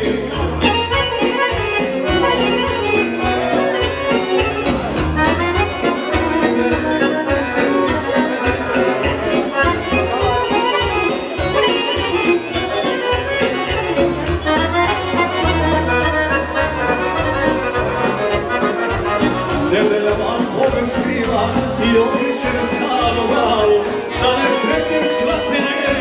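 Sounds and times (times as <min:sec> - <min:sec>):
accordion: 0:00.0 - 0:26.0
folk band playing: 0:00.0 - 0:26.0.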